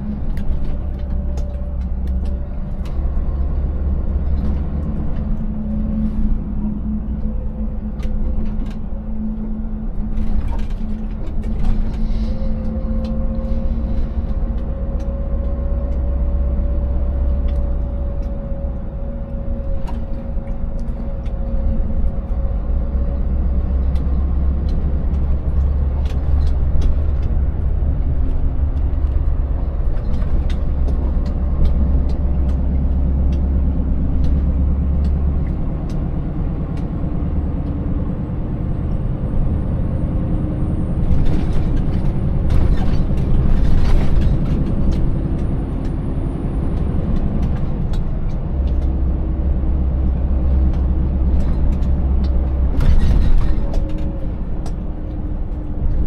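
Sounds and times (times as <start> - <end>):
truck diesel engine droning: 0.0 - 56.0
truck knocks and rattles: 0.0 - 56.0.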